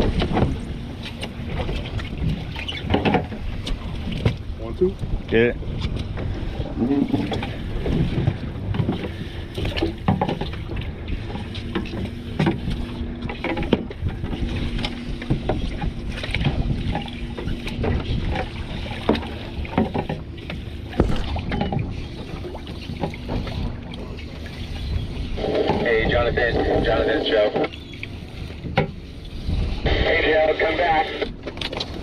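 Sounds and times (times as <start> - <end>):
water noise: 0.0 - 32.0
wind: 0.0 - 32.0.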